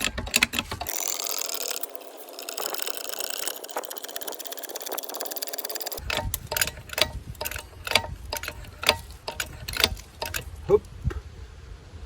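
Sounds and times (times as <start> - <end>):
ratchet clicking rapidly: 0.0 - 10.8
metallic clicks and knocks: 0.0 - 11.0.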